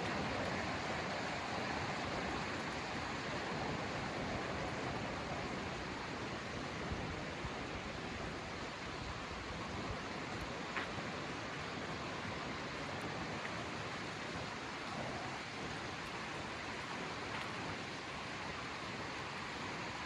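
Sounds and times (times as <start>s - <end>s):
forest rushing noise: 0.0s - 20.0s.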